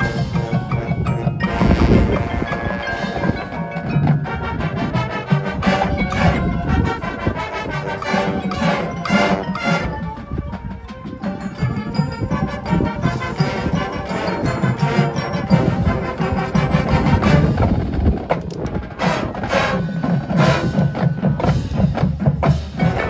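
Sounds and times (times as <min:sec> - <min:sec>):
mallet percussion notes: 0:00.0 - 0:23.0
marching band playing: 0:00.0 - 0:23.0.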